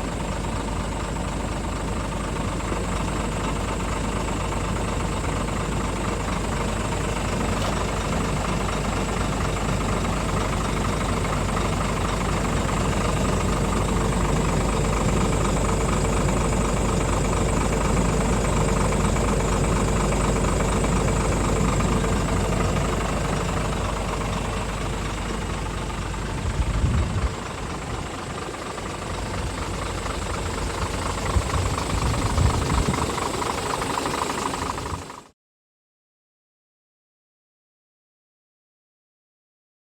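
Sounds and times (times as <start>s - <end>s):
diesel truck engine idling: 0.0s - 35.3s.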